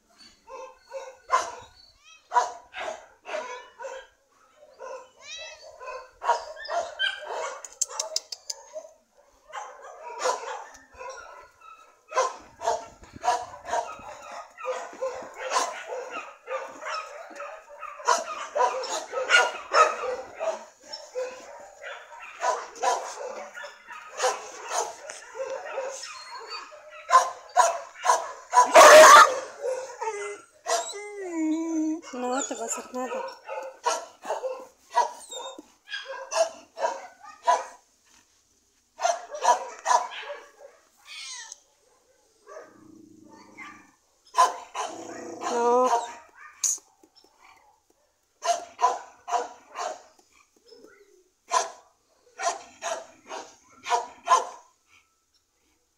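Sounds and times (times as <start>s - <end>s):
dog barking and yipping: 0.4s - 31.1s, 32.0s - 37.8s, 39.0s - 54.7s.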